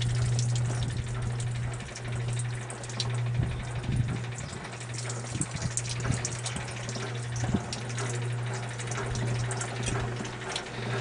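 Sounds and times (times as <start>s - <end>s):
water splashing and pouring: 0.0s - 10.7s
washing machine motor hum: 0.0s - 11.0s.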